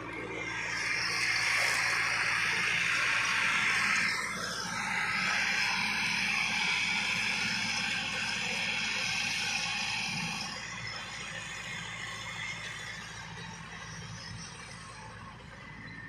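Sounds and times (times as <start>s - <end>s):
tractor diesel engine drone: 0.0s - 16.0s.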